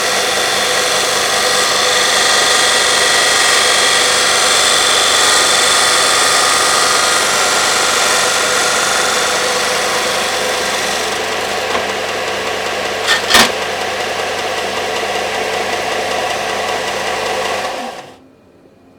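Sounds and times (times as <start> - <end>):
belt sander running: 0.0 - 18.2.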